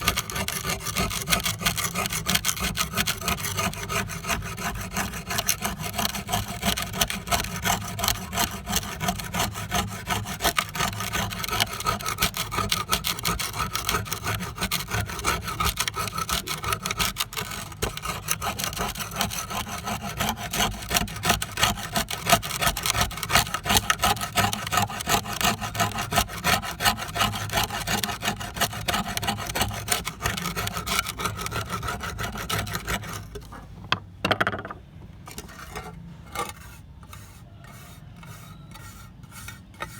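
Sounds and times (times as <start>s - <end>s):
abrasive rasping on metal trowel: 0.0s - 33.7s, 35.3s - 39.9s.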